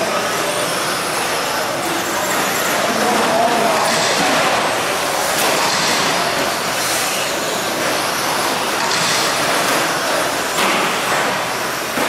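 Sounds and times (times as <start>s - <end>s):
rc trucks racing on dirt: 0.1s - 12.0s.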